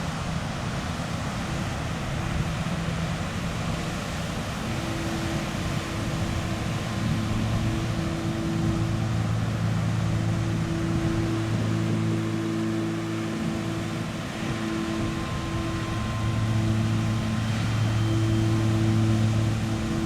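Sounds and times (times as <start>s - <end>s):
meditation music drone: 0.0s - 20.0s
sea waves washing on shore: 0.0s - 20.0s.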